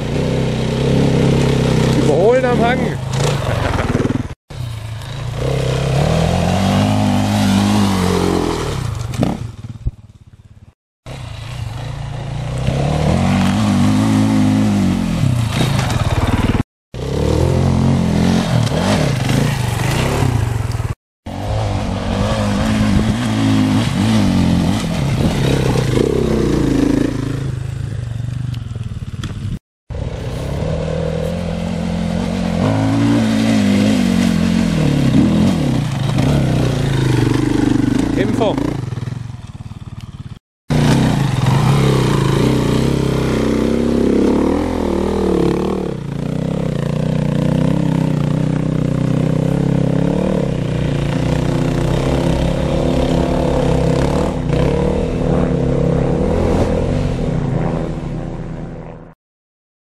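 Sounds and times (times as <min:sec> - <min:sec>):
motorcycle engines revving: 0:00.0 - 0:59.1.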